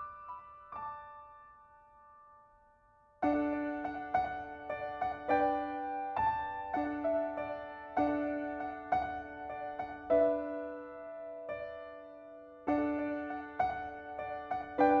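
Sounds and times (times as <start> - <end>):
piano playing gentle chords: 0.0 - 15.0.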